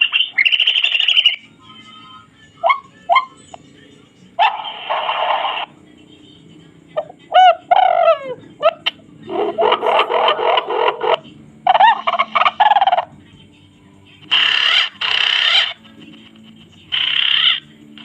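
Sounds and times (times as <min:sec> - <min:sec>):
bird calls from loudspeaker: 0:00.0 - 0:05.7, 0:07.0 - 0:13.1, 0:14.3 - 0:17.7.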